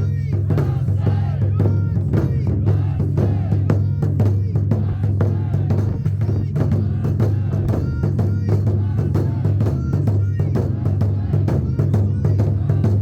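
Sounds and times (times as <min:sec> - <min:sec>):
drums in quick irregular rhythm: 0:00.0 - 0:13.0.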